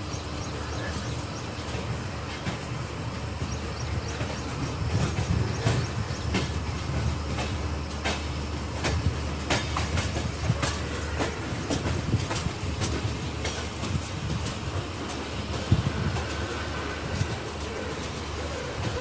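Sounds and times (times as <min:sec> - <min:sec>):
train rumbling at speed: 0:00.0 - 0:19.0
wheels clicking over rail joints: 0:00.0 - 0:19.0.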